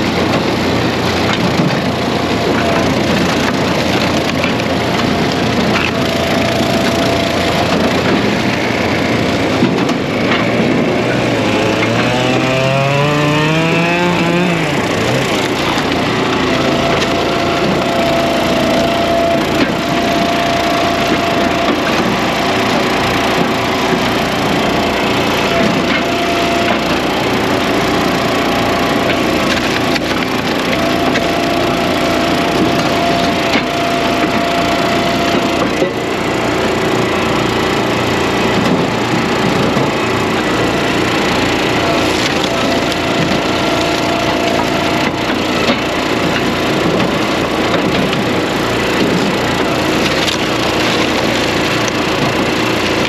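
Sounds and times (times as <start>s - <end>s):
chainsaws running: 0.0s - 53.0s
wood splitters running: 0.0s - 53.0s
wood splitting and cracking: 0.0s - 53.0s.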